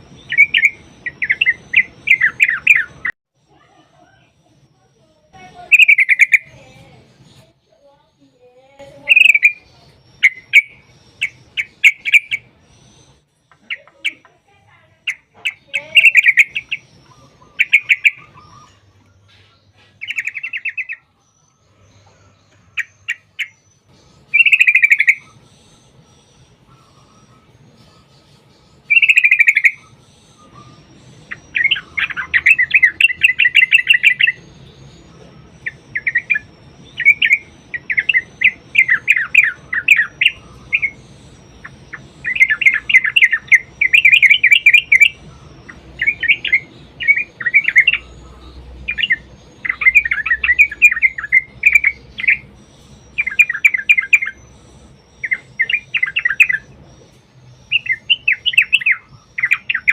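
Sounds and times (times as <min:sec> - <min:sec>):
bulbul singing chattering notes: 0:00.0 - 0:03.2, 0:04.2 - 0:07.9, 0:08.8 - 0:59.9.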